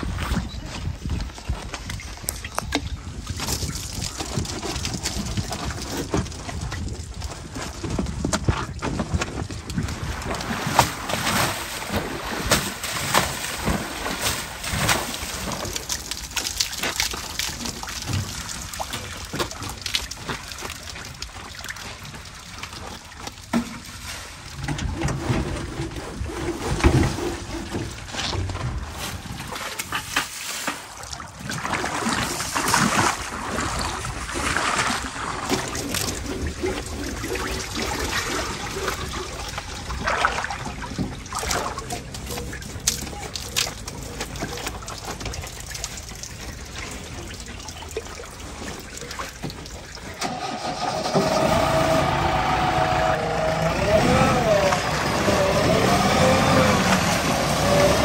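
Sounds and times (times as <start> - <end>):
water trickling and splashing: 0.0 - 58.0.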